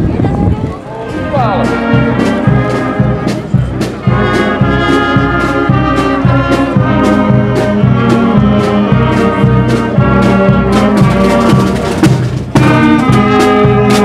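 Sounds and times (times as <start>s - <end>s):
marching wind band: 0.0s - 14.0s
bass drum beat: 1.6s - 14.0s.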